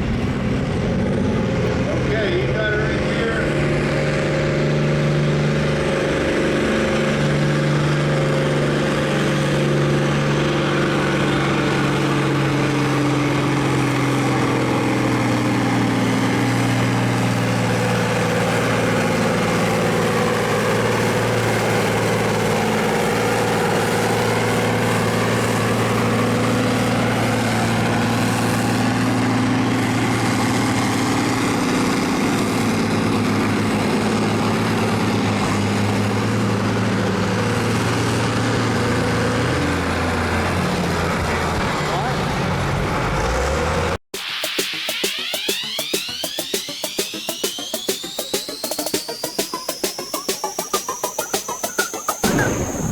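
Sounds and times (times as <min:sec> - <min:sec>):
tractor engine under heavy load: 0:00.0 - 0:44.0, 0:51.8 - 0:52.9.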